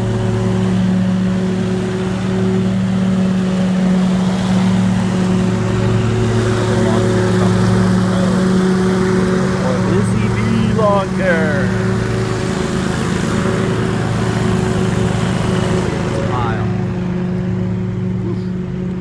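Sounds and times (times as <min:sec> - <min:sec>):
lawn mower engine drone: 0:00.0 - 0:19.0.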